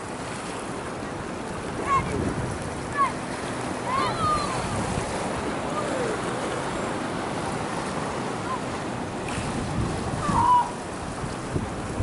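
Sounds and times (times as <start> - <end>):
small waves lapping against rocks: 0.0 - 12.0
wind buffeting microphone: 1.0 - 12.0.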